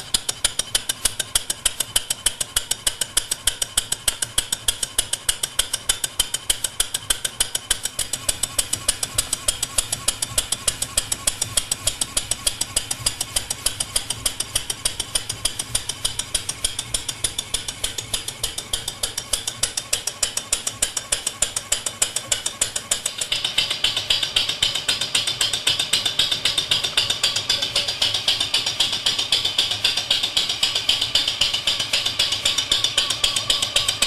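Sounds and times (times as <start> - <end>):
steam engine chuffing: 0.0 - 34.0.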